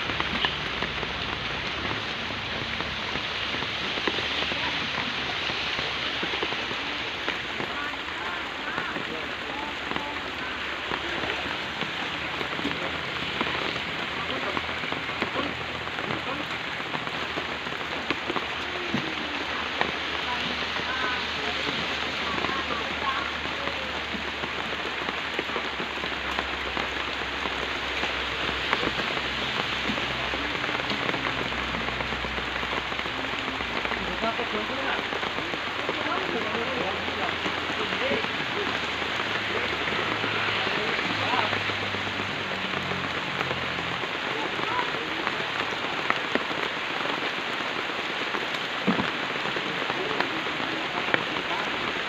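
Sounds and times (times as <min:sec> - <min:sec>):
falling water hissing: 0:00.0 - 0:52.0.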